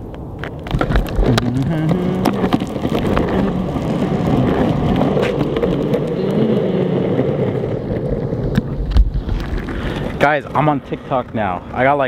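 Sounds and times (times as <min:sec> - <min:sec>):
longboard wheels rolling on concrete: 0:00.0 - 0:12.0.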